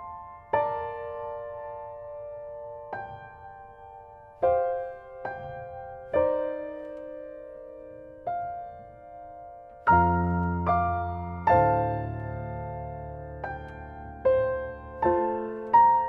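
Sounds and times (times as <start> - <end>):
slow solo piano piece: 0.0 - 16.0.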